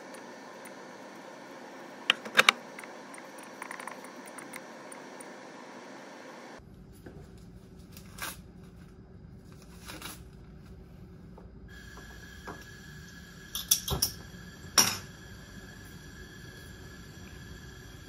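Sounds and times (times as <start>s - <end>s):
faint whine: 0.0s - 18.0s
room hum: 0.0s - 18.0s.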